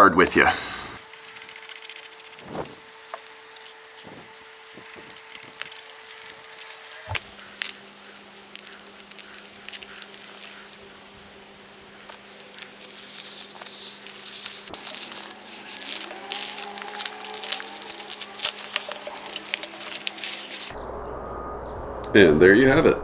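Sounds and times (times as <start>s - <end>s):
steady low hum: 0.1s - 23.0s
tape peeling and crackling: 1.0s - 20.8s.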